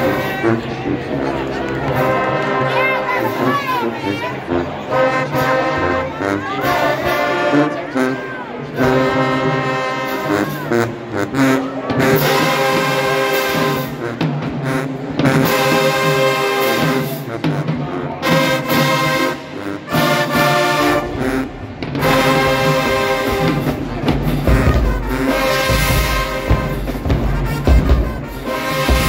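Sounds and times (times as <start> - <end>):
marching band brass chords: 0.0 - 29.0.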